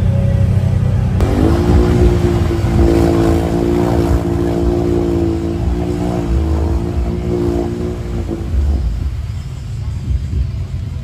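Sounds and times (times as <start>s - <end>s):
buggy engine at high revs: 0.0s - 11.0s.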